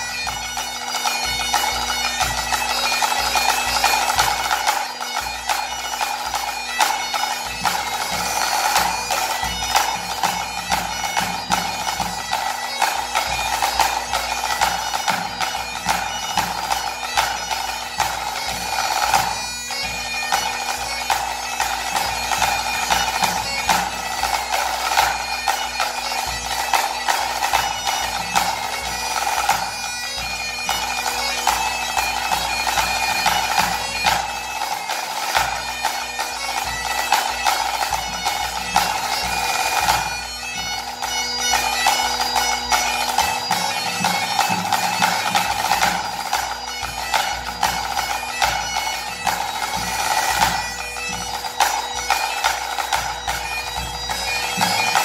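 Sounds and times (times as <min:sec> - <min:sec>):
bagpipe playing a tune: 0:00.0 - 0:55.0.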